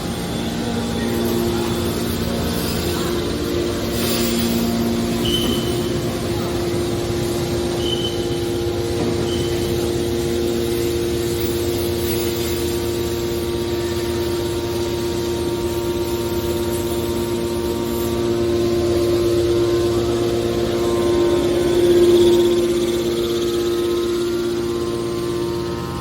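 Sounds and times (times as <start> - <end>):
baler machine humming: 0.0 - 26.0.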